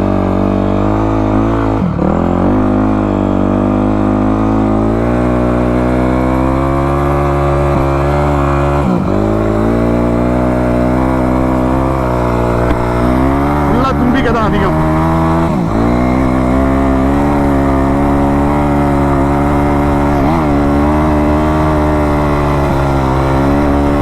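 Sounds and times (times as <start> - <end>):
dirt bike engine running hard: 0.0 - 24.0.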